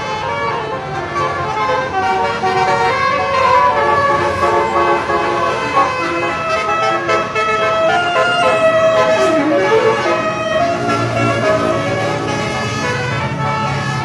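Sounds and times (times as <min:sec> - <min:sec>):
bus horn playing a melody: 0:00.0 - 0:14.0.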